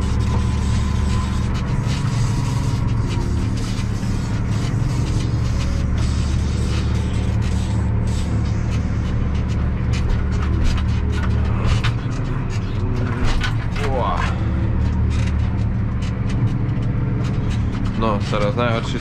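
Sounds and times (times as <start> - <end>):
maize ticking on cab: 0.0 - 19.0
tractor engine humming: 0.0 - 19.0.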